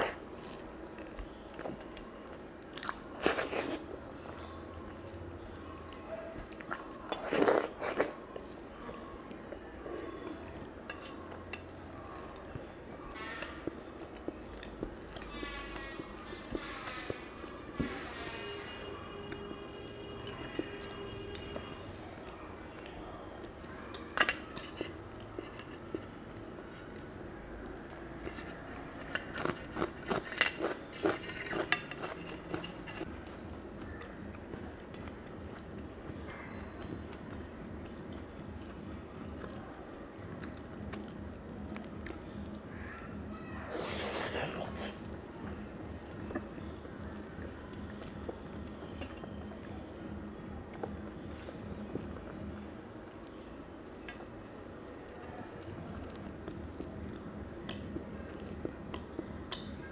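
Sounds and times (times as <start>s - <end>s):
soft chewing: 0.0s - 59.9s.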